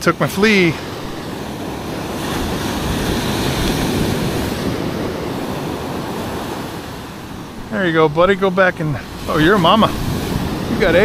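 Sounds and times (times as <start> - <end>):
ocean surf breaking on beach: 0.0 - 11.0
wind on microphone: 0.0 - 11.0.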